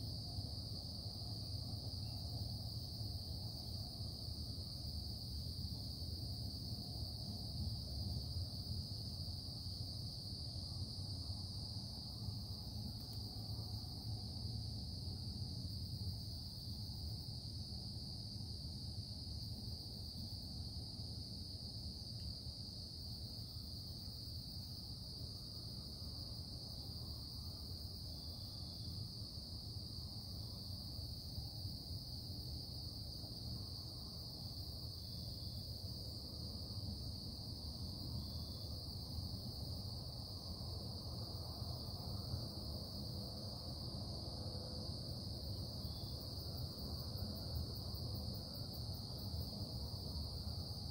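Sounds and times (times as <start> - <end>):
constant high hiss: 0.0 - 50.9.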